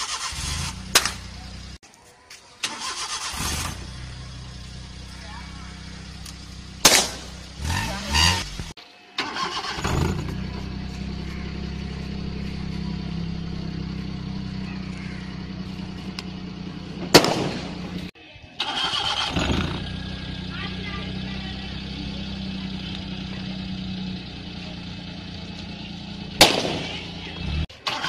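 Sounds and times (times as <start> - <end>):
car engine idling: 0.0 - 1.8, 2.6 - 28.0.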